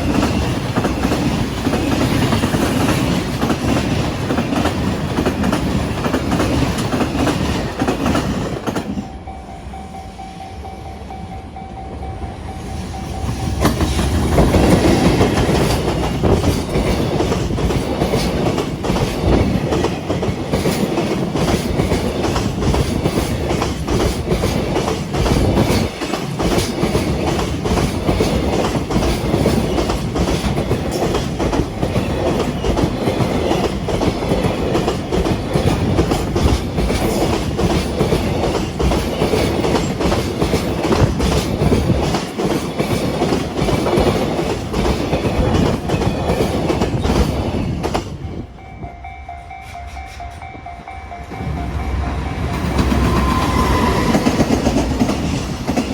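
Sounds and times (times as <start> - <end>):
level-crossing warning bell: 0.0 - 55.9
train wheels rumbling on rails: 0.0 - 55.9.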